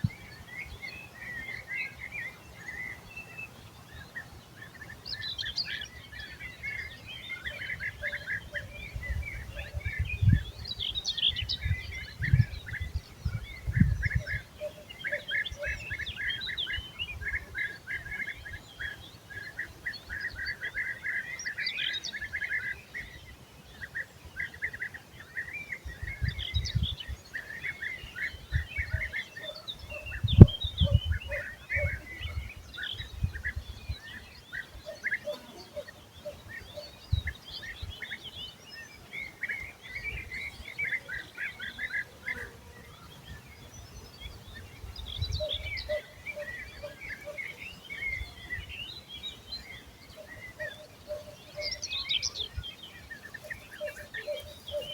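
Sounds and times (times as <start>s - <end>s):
birds chirping and singing: 0.0s - 54.9s.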